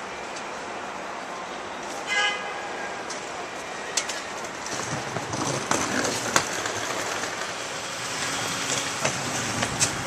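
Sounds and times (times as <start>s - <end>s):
passing train rumble: 0.0s - 10.0s.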